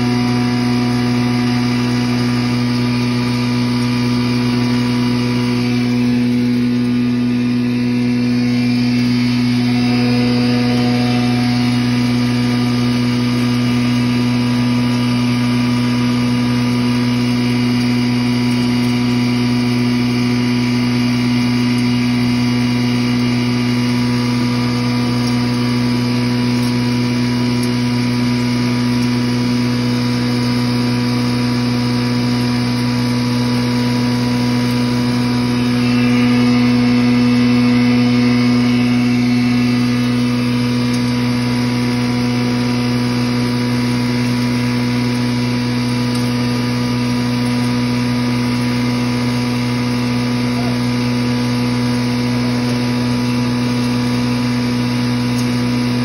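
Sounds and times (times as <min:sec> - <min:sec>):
straw grinder machine humming: 0:00.0 - 0:56.0.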